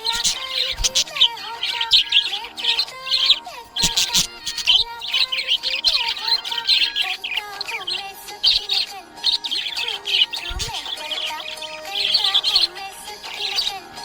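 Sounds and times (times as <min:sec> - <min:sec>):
budgerigar chirping: 0:00.0 - 0:14.0.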